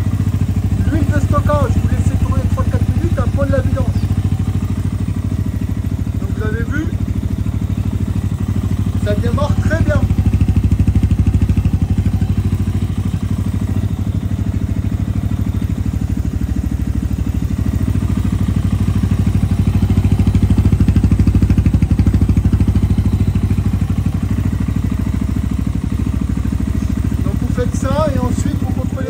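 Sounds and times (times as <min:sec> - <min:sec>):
dirt bike engine idling: 0:00.0 - 0:29.0.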